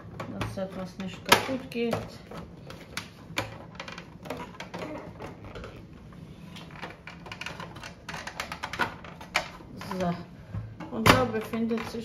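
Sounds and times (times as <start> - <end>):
plastic clicks and knocks: 0.0 - 5.8, 6.6 - 12.0.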